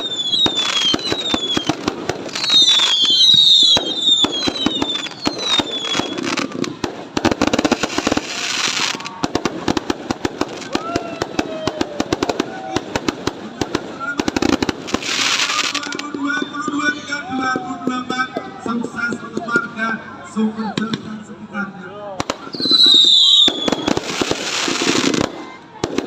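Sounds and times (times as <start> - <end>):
fireworks hissing: 0.0 - 17.6, 22.2 - 26.0
fireworks crackling bangs: 0.0 - 19.9, 22.1 - 26.0.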